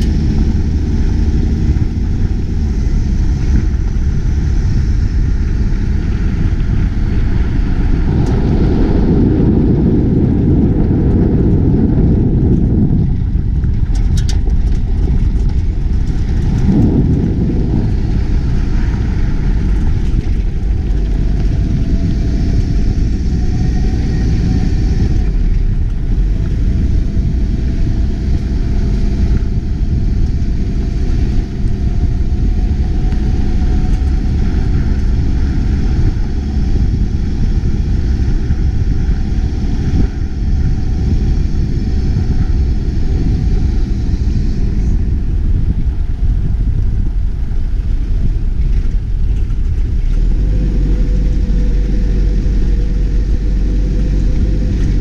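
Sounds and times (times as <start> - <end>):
truck engine rumble: 0.0 - 55.0.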